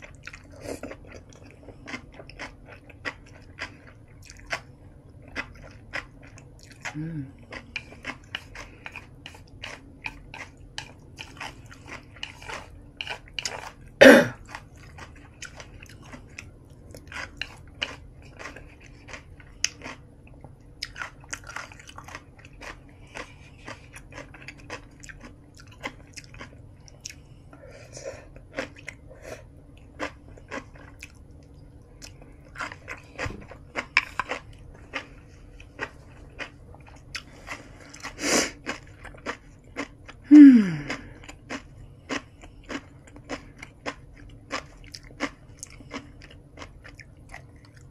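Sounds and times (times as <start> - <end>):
chewing and biting food: 0.0 - 27.2, 28.3 - 29.1, 29.7 - 47.9.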